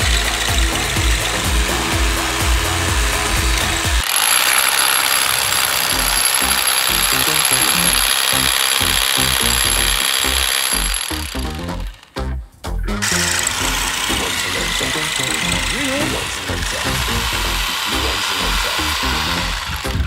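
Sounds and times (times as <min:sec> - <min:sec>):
hammer drill boring into concrete: 0:00.0 - 0:12.1, 0:13.0 - 0:20.0.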